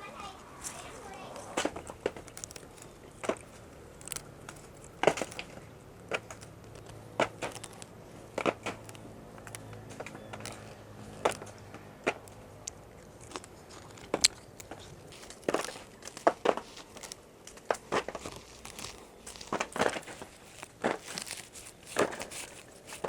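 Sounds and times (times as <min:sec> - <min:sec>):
dry crackling and snaps: 0:00.0 - 0:23.0.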